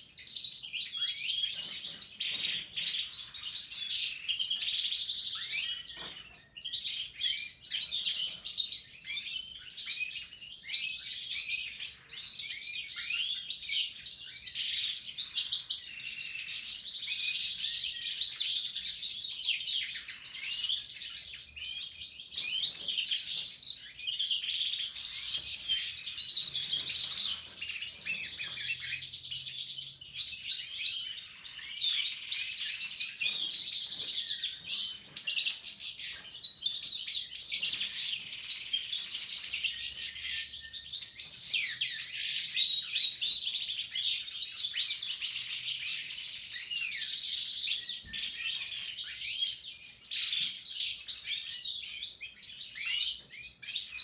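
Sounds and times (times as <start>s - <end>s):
caged birds twittering and warbling: 0.0s - 54.0s.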